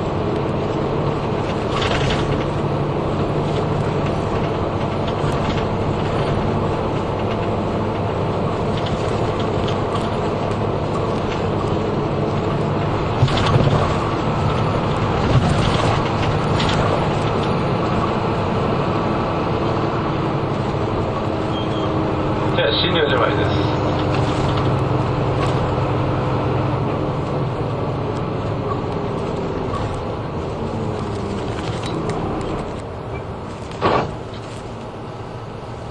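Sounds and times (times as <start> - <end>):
bus engine and road noise: 0.0 - 35.9.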